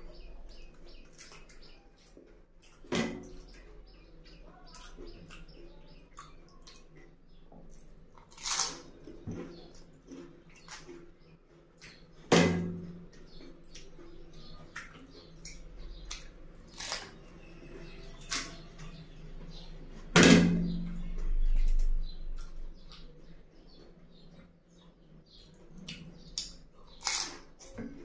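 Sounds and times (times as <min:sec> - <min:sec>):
wet chewing and crunching: 0:00.0 - 0:20.1, 0:20.7 - 0:28.0.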